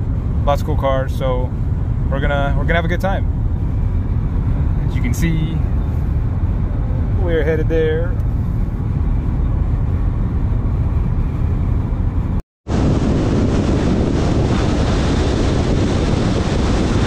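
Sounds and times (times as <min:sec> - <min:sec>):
car wind and road noise: 0:00.0 - 0:17.0.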